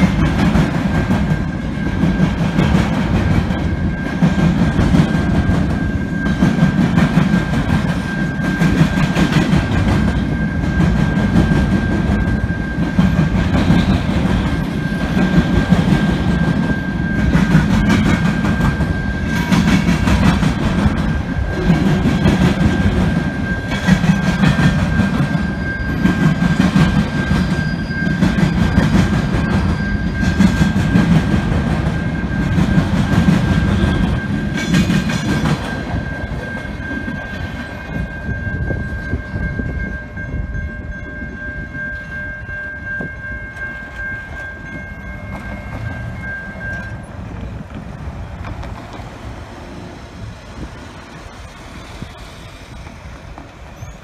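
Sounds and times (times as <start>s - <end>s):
steady high tone: 0.0s - 47.3s
train wheels clattering on rails: 0.0s - 54.0s.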